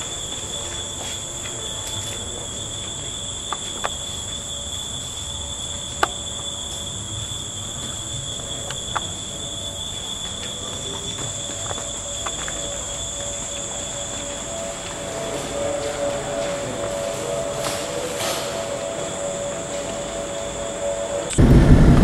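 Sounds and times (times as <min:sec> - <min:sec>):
night insects buzzing: 0:00.0 - 0:22.0.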